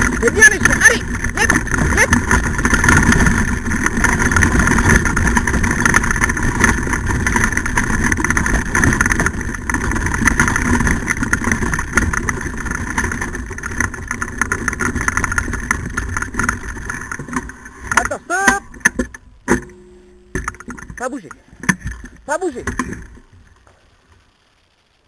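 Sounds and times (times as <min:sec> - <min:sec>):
kart wheels rattling on dirt: 0:00.0 - 0:25.0.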